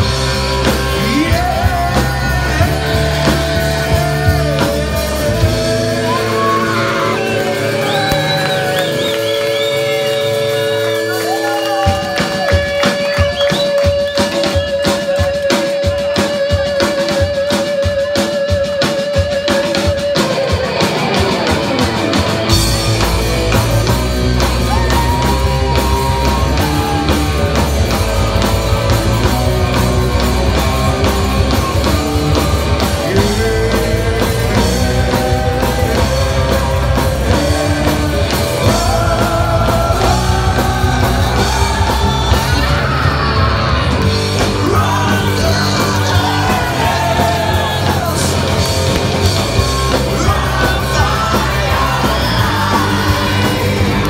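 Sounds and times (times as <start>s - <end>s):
drums: 0.0s - 54.0s
live heavy metal band: 0.0s - 54.0s
singer: 0.0s - 54.0s.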